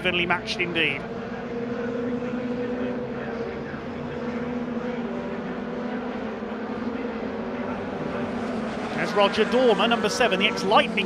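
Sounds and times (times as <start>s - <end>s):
racing truck engines droning: 0.0s - 11.0s.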